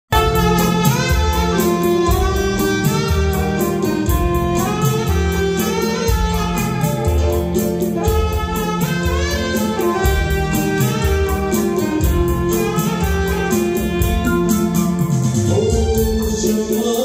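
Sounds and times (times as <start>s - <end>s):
keyboard backing: 0.1s - 17.0s
saxophone melody: 0.1s - 17.0s
steady beat: 0.1s - 17.0s.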